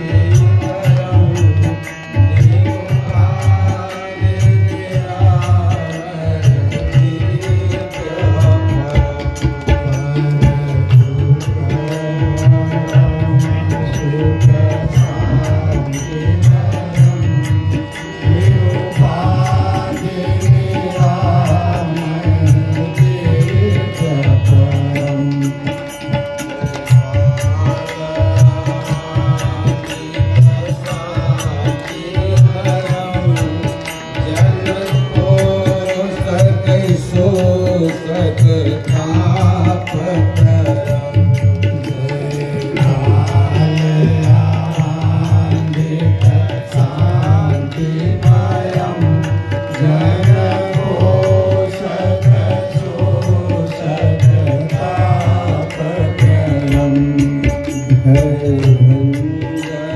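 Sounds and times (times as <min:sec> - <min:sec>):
devotional music: 0:00.0 - 0:59.9.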